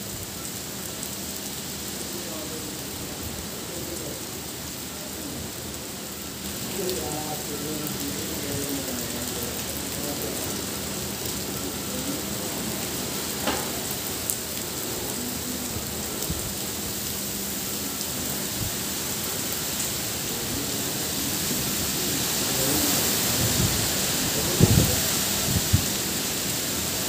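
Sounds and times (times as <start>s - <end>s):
heavy rain on foliage: 0.0s - 27.0s.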